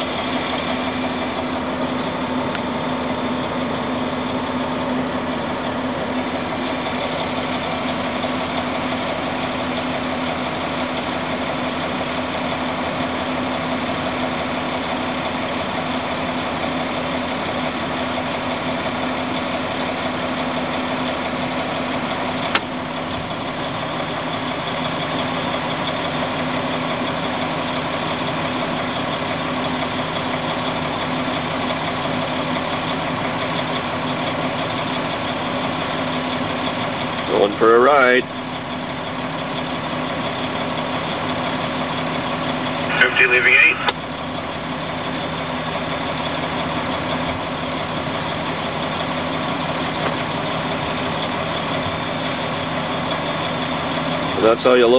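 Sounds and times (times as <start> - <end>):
truck diesel engine from cab: 0.0 - 54.9.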